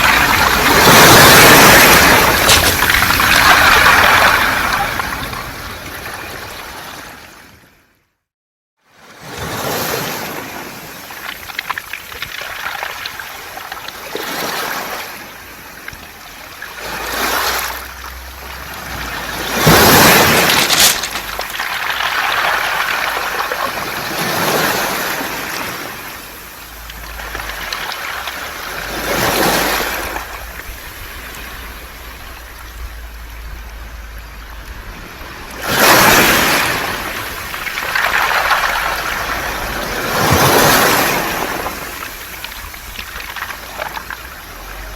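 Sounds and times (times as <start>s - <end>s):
waves rattling pebbles: 0.0s - 7.3s, 9.3s - 44.9s.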